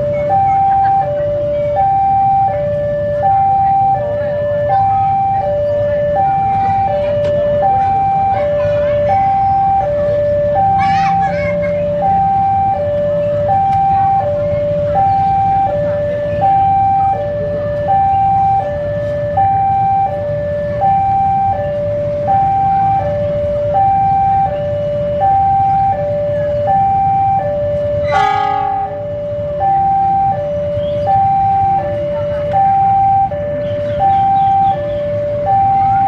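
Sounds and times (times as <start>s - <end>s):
diesel locomotive engine running: 0.0s - 36.0s
two-tone level crossing alarm: 0.0s - 36.0s.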